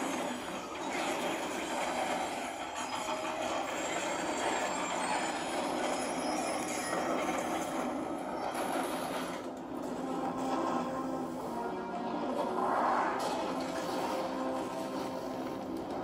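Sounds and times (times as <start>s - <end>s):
action film sound effects: 0.0s - 16.0s.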